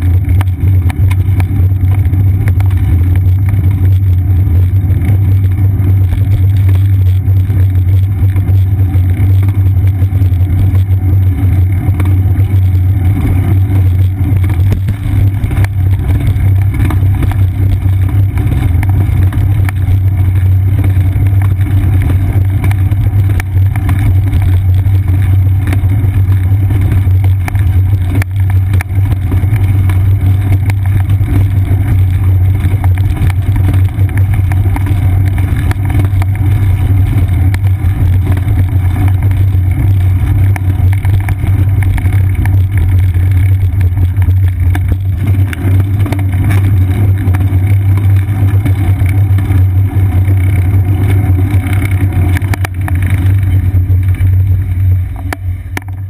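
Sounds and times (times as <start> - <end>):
road vibration rumble: 0.0 - 56.0.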